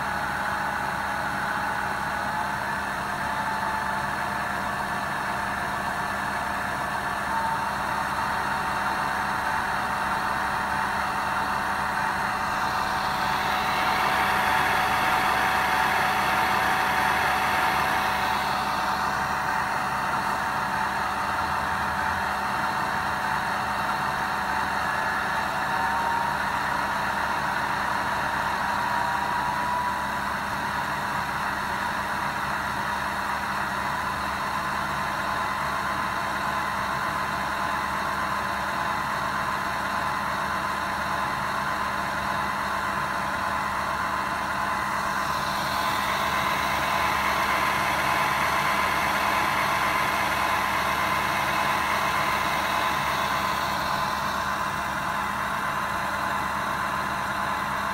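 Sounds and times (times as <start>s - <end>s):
diesel locomotive engine running: 0.0s - 57.9s.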